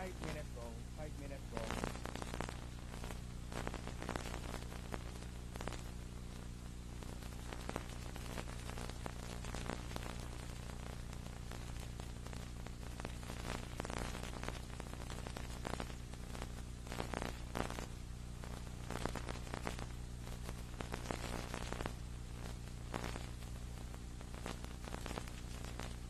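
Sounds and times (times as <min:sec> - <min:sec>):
crackling static: 0:00.0 - 0:26.0
electrical hum with hiss: 0:00.0 - 0:26.0.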